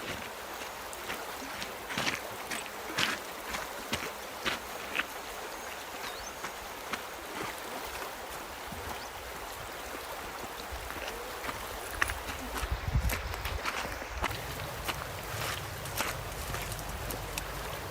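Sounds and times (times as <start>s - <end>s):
river water flowing: 0.0s - 17.9s.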